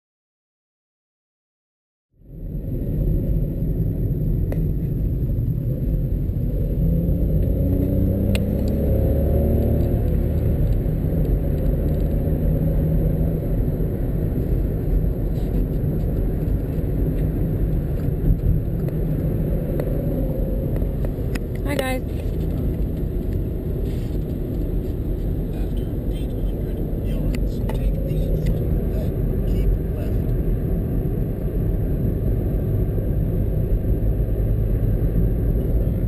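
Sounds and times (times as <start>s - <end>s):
car engine and road noise: 2.1s - 36.0s.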